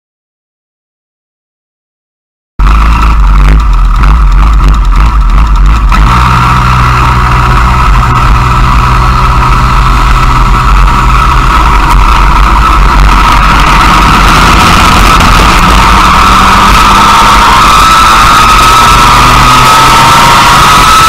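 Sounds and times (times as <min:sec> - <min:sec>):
kart engine running: 0:02.6 - 0:21.0.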